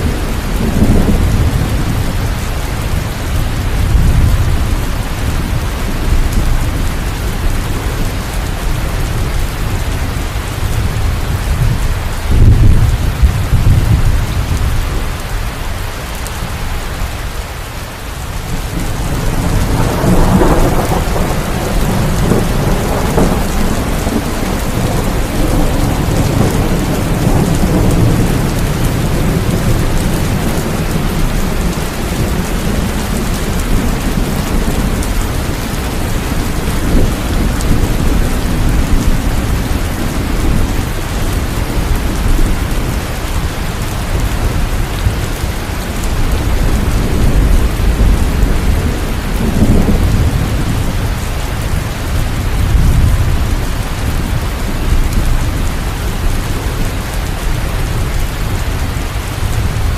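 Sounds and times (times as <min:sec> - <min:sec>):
rolling thunder: 0:00.0 - 0:15.1, 0:18.4 - 0:59.9
heavy rain: 0:00.0 - 0:59.9.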